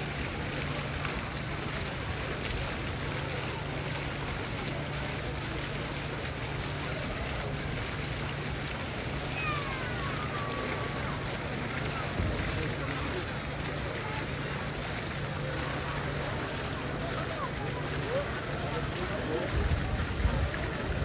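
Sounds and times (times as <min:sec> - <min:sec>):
faint indistinct voices: 0:00.0 - 0:21.0.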